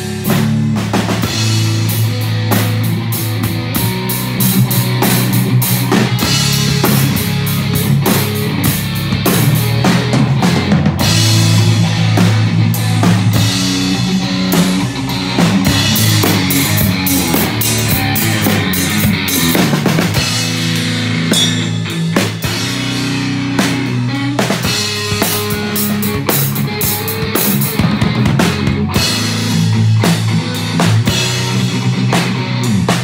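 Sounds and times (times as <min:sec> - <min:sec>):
drum kit beat: 0:00.0 - 0:33.0
electric bass: 0:00.0 - 0:33.0
electric guitar: 0:00.0 - 0:33.0.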